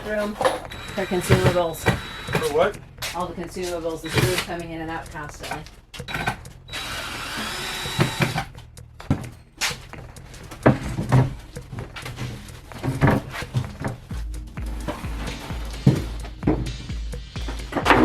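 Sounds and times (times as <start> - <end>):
objects knocking and clunking: 0.0 - 4.5, 7.6 - 18.0.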